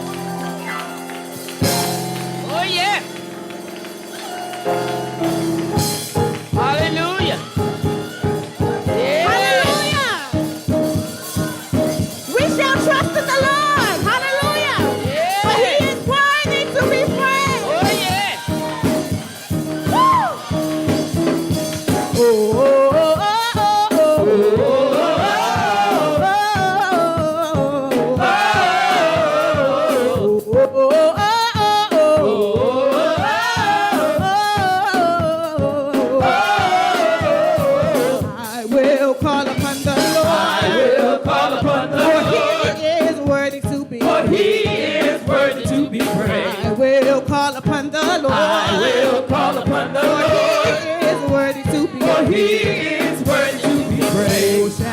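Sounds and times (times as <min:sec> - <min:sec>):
live band with drums: 0:00.0 - 0:54.9
vocal group singing gospel: 0:03.3 - 0:21.1, 0:21.8 - 0:54.9.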